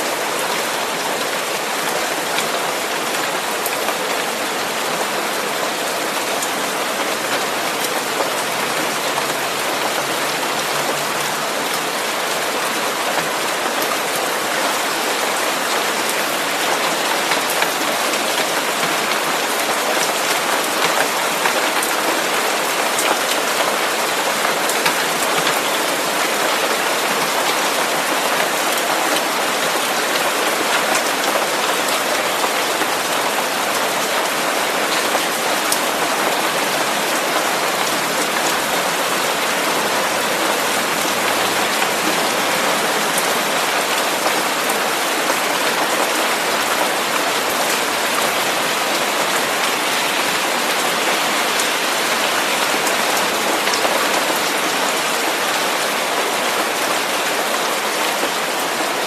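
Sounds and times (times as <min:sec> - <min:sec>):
faint rain patter: 0:00.0 - 0:59.0.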